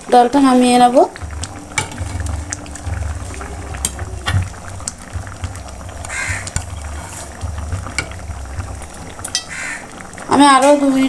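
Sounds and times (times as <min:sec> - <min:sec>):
thick stew bubbling in a pan: 0:00.0 - 0:11.0.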